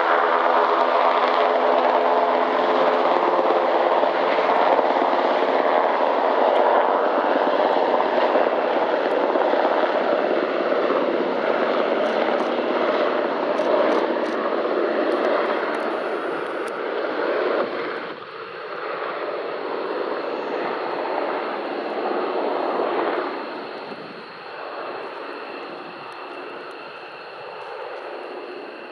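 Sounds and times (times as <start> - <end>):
helicopter rotor and engines: 0.0 - 28.9
high engine whine: 0.0 - 28.9.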